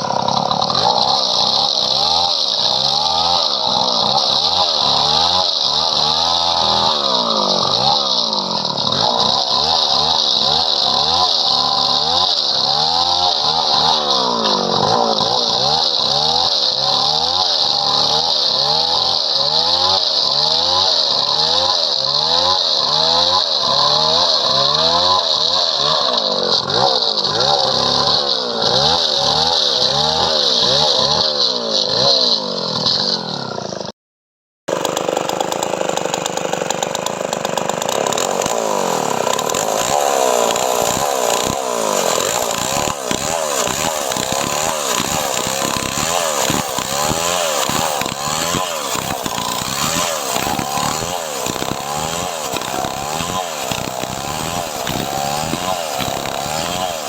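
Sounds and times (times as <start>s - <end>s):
chainsaw cutting wood: 0.0s - 33.9s, 34.7s - 57.0s.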